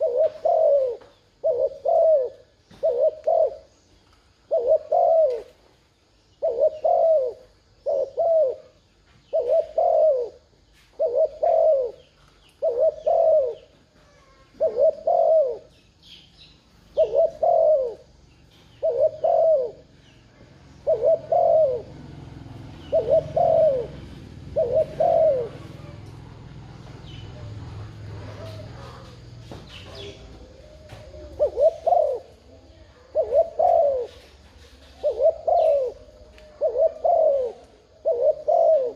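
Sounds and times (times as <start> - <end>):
dove cooing: 0.0 - 5.6, 6.4 - 15.8, 16.9 - 38.9.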